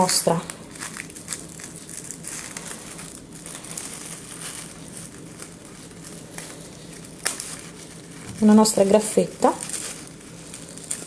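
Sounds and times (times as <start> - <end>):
metallic mesh crinkling: 0.0 - 11.0.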